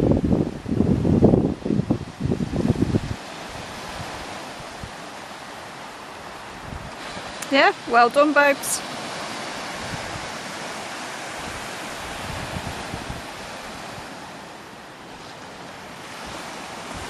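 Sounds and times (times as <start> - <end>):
sea surf washing onto beach: 0.0 - 17.0
wind gusting on microphone: 0.0 - 17.0.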